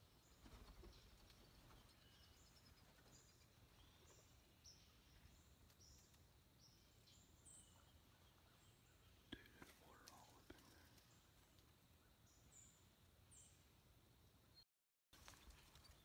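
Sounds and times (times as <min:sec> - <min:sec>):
faint bird chirps: 0:00.0 - 0:13.8.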